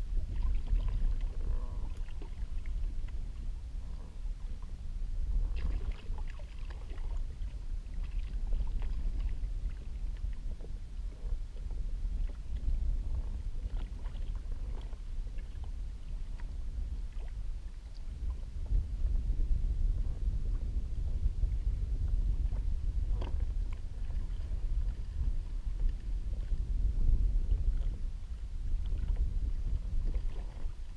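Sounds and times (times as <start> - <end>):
water lapping against boat hull: 0.0 - 30.9
wind rumble on microphone: 0.0 - 30.9.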